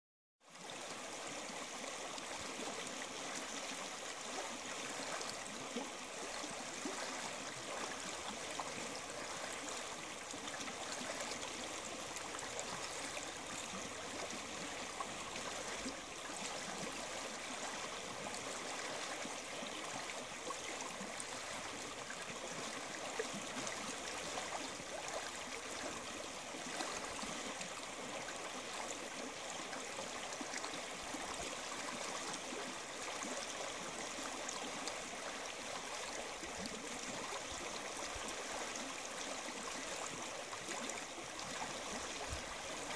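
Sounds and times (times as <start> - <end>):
creek water rushing over stones: 0.4 - 42.9.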